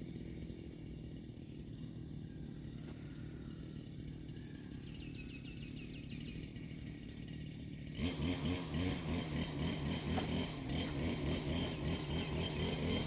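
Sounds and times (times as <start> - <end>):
engine-driven machine running: 0.0 - 13.0.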